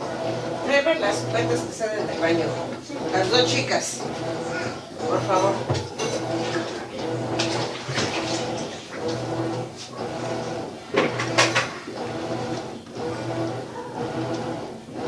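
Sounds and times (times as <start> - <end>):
washing machine agitating: 0.0 - 15.0.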